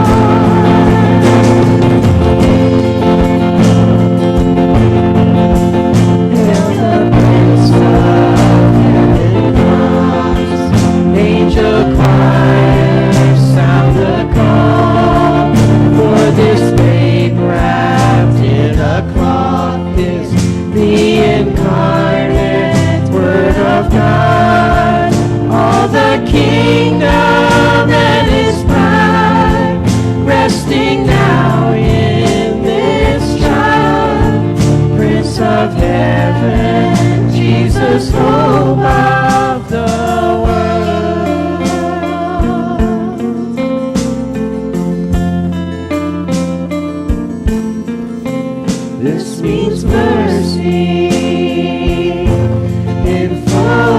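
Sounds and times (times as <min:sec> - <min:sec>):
group singing worship song: 0:00.0 - 0:45.4, 0:48.7 - 0:53.9
band accompanying: 0:00.0 - 0:53.9.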